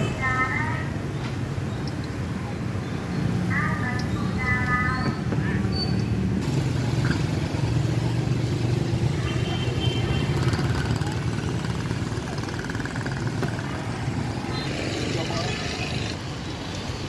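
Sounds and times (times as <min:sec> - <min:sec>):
motorbikes passing: 0:02.2 - 0:17.0.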